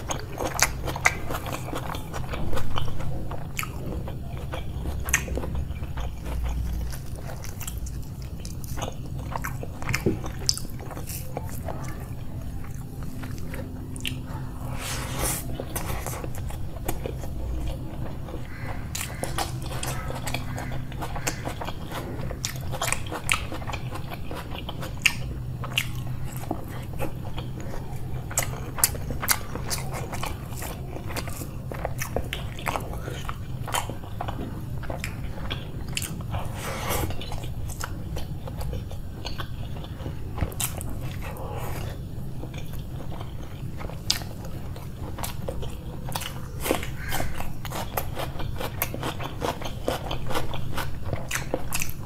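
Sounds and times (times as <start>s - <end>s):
person chewing crunchy food: 0.0s - 52.0s
steady low hum: 0.0s - 52.0s.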